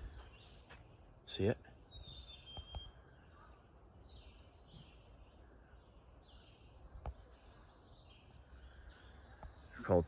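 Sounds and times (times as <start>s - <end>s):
faint high bird chirps: 0.0s - 10.0s.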